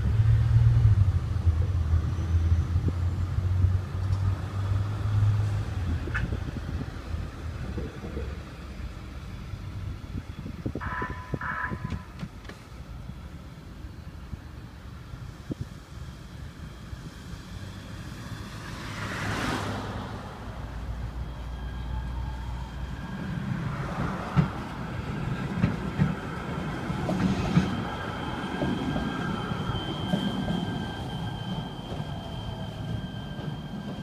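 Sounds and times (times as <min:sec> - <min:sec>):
light-rail train rumbling: 0:00.0 - 0:34.0.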